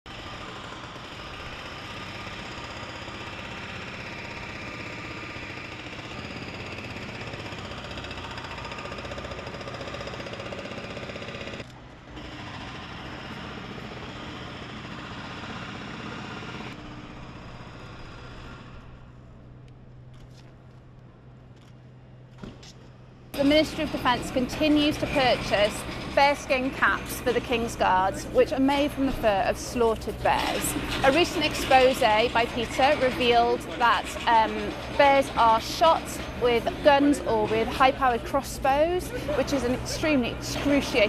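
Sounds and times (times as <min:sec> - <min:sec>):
machine rattling and rumbling: 0:00.1 - 0:20.8, 0:22.3 - 0:41.0.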